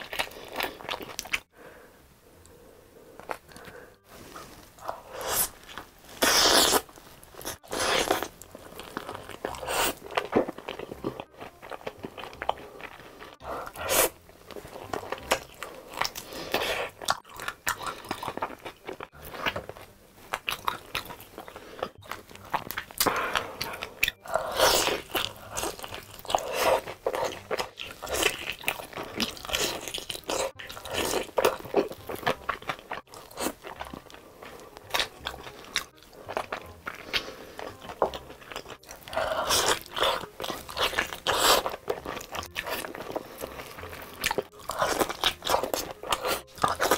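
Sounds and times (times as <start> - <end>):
crunchy chewing of fried chicken: 0.0 - 1.5, 3.1 - 46.9.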